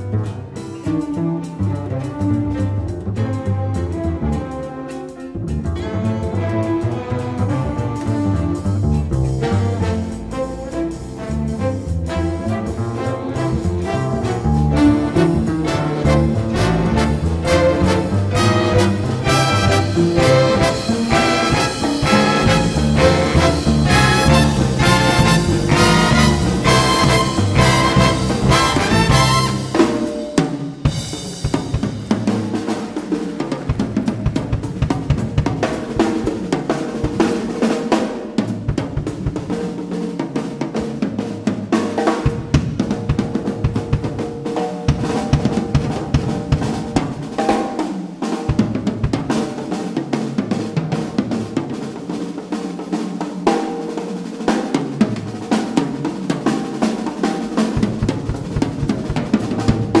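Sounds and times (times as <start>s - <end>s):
drum kit solo: 0.0s - 60.0s.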